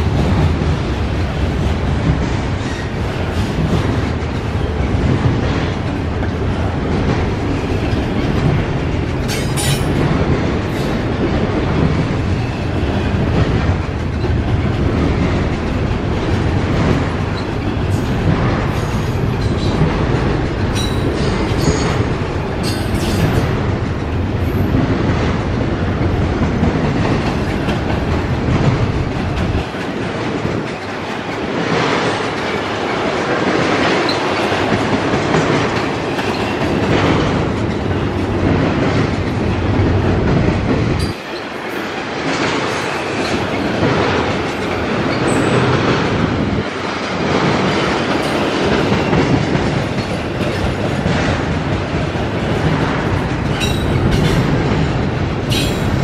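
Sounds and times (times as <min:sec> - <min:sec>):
freight train wheels rumbling: 0:00.0 - 0:56.0
wheels clacking over rail joints: 0:00.0 - 0:56.0.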